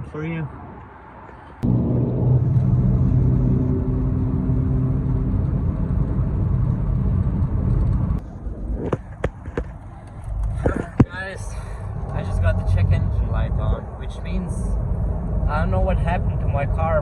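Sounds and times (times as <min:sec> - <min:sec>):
car engine droning: 0:01.6 - 0:17.0.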